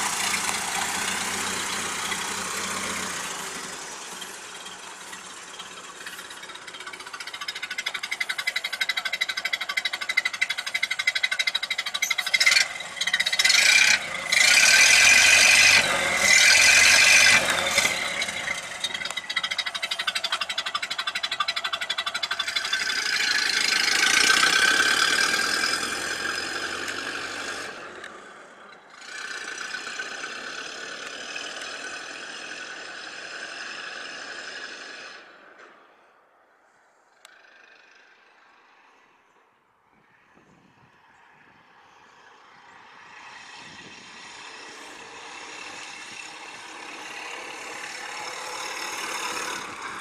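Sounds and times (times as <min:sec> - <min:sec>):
old car engine running: 0:00.0 - 0:35.8, 0:42.2 - 0:50.0.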